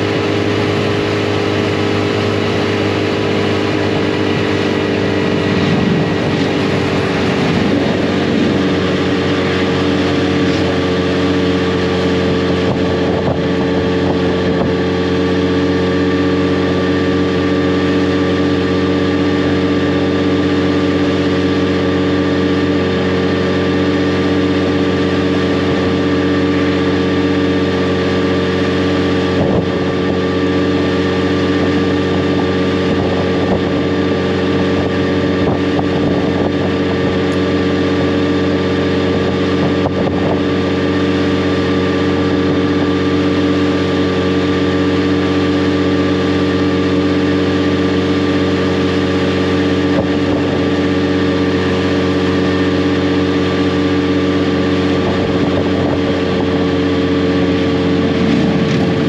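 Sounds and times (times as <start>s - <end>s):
motorcycle engine cruising: 0.0s - 59.0s
wind rushing over microphone: 0.0s - 59.0s.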